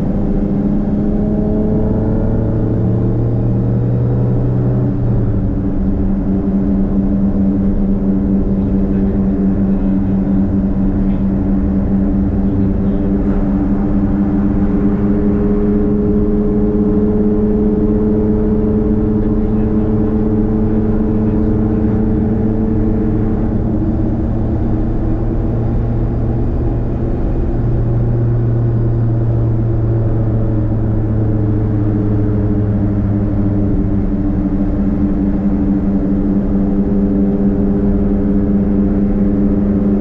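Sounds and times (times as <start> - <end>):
car exhaust droning: 0.0 - 40.0.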